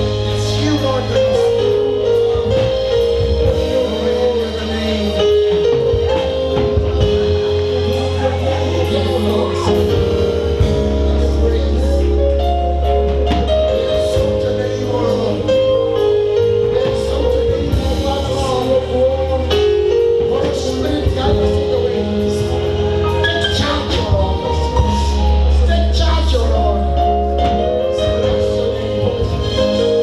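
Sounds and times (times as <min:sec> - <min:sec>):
gospel band playing: 0:00.0 - 0:30.0
person singing: 0:00.0 - 0:30.0.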